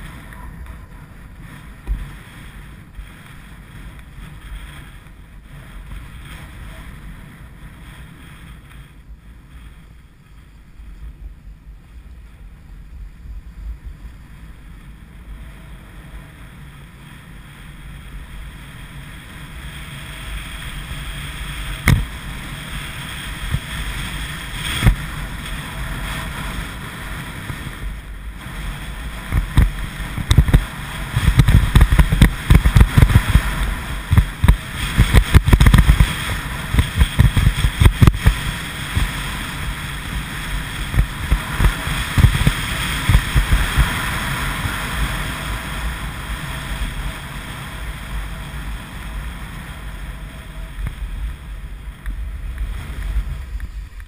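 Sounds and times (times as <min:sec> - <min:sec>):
ski edges scraping snow: 0:00.0 - 0:10.5, 0:17.1 - 0:54.0
wind buffeting microphone: 0:00.0 - 0:54.0.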